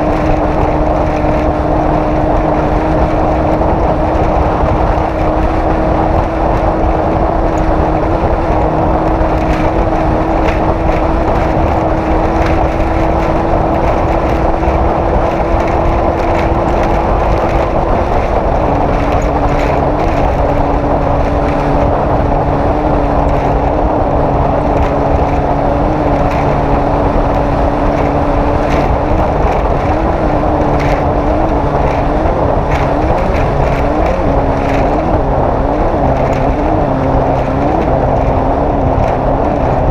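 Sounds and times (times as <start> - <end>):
race engine running hard: 0.0 - 39.9
wind and terrain rush: 0.0 - 39.9.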